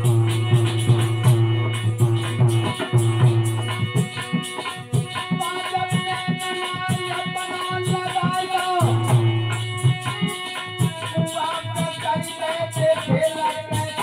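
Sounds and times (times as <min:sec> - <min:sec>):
hand drum beats: 0:00.0 - 0:12.2
harmonium: 0:00.0 - 0:14.0.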